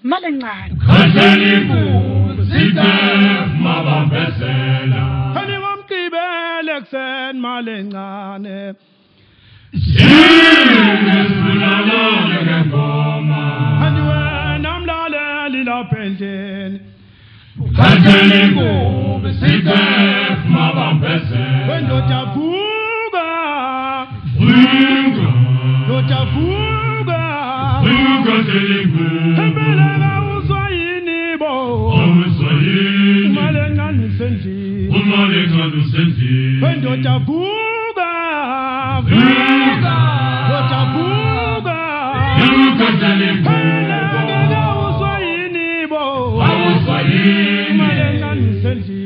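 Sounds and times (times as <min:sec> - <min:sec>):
male choir singing in harmony: 0:00.7 - 0:08.2, 0:09.7 - 0:16.8, 0:17.6 - 0:37.5, 0:38.4 - 0:49.0.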